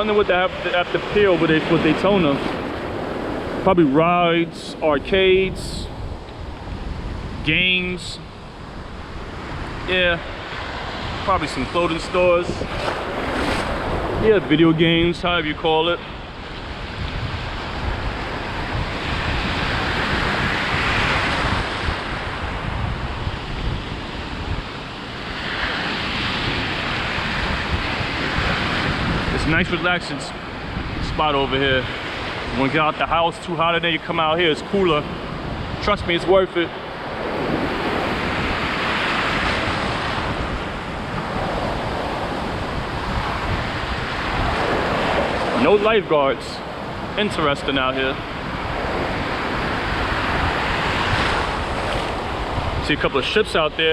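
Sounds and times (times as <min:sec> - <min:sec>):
ocean surf breaking: 0:00.0 - 0:53.9
wind buffeting microphone: 0:00.0 - 0:53.9.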